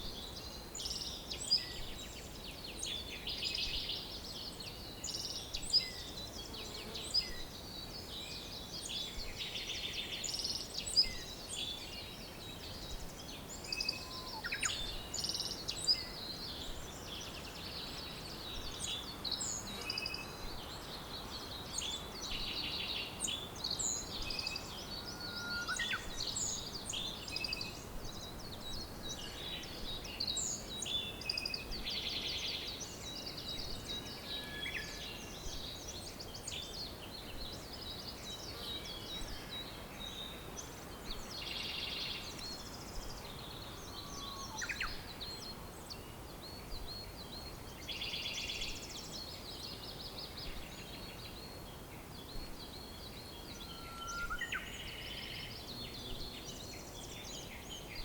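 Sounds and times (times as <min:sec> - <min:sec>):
steady background hiss: 0:00.0 - 0:58.0
wild birds singing and calling: 0:00.0 - 0:58.0.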